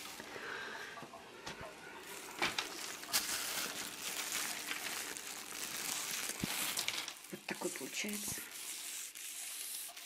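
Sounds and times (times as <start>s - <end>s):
plastic glove crinkling: 0.0s - 0.3s, 2.0s - 10.0s.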